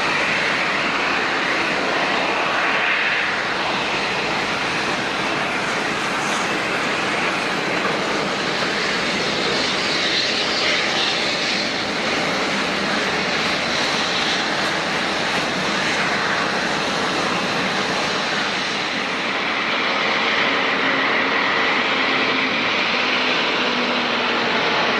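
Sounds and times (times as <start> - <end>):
jet engines rushing: 0.0 - 24.9.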